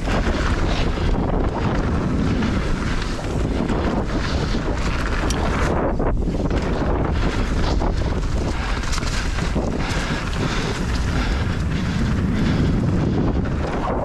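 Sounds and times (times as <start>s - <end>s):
tyre rumble: 0.0s - 14.0s
wind on microphone: 0.0s - 14.0s.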